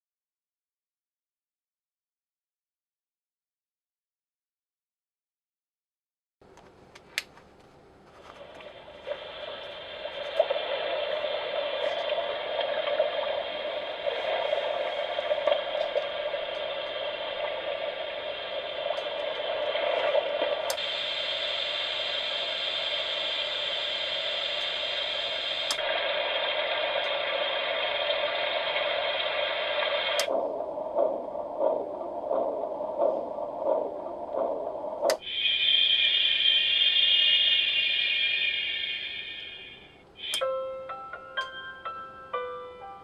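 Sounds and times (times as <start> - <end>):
white noise hiss from speaker: 6.5 - 42.9.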